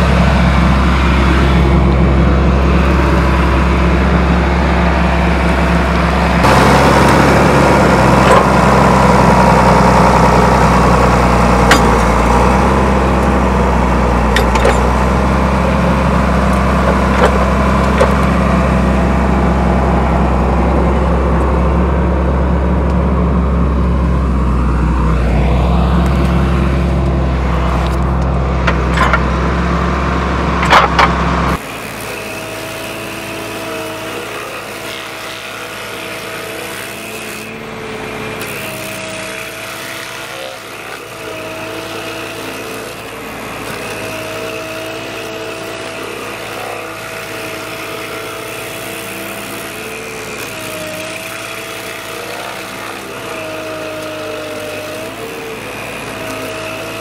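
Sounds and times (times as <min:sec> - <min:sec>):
deep machine noise with cracks: 0:00.0 - 0:57.0
stump grinder engine running: 0:00.0 - 0:57.0.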